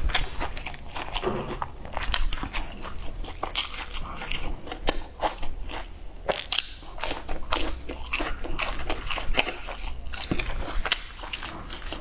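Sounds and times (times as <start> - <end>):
biting and chewing sausage: 0.0 - 12.0.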